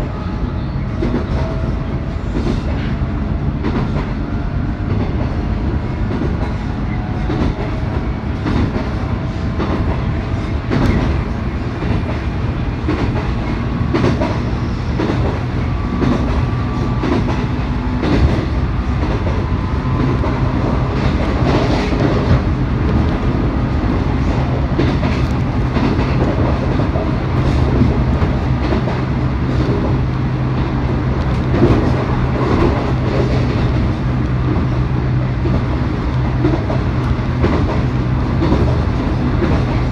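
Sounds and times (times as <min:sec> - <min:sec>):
rail-joint clicks: 0:00.8 - 0:04.2, 0:04.8 - 0:39.9.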